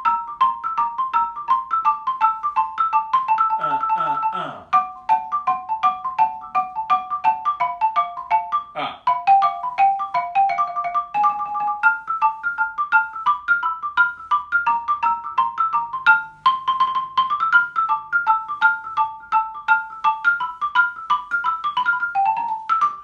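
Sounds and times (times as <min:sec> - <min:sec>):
xylophone notes: 0:00.0 - 0:23.0.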